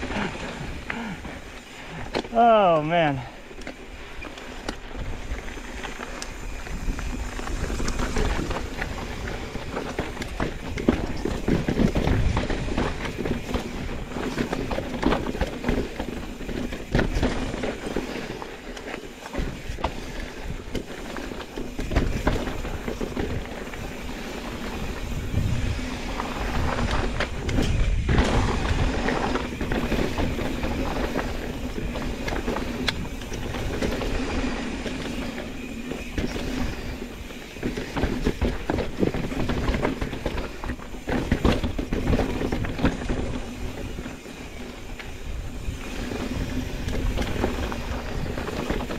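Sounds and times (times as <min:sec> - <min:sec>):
bike tyres clattering over rock: 0:00.0 - 0:48.9.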